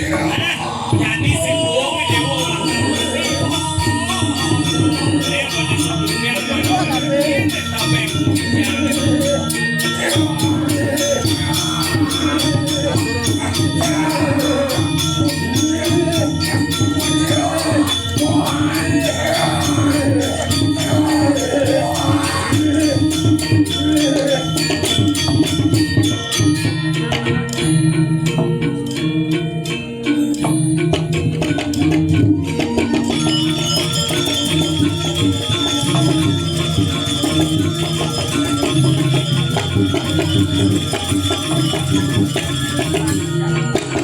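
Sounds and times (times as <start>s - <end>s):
jingling bells: 0.0s - 44.0s
traditional percussion music: 0.0s - 44.0s
wavering voice singing: 0.0s - 44.0s.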